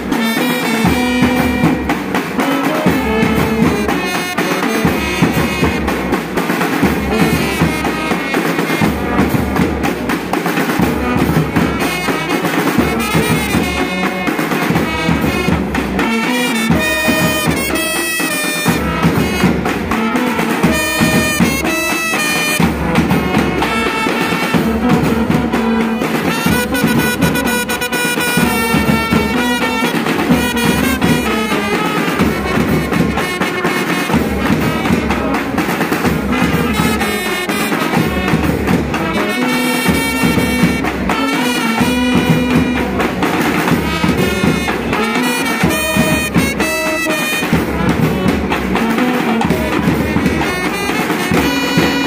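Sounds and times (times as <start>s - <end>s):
brass band playing: 0.0s - 52.0s
marching side drums: 0.0s - 52.0s
trumpets and saxophones melody: 0.0s - 52.0s.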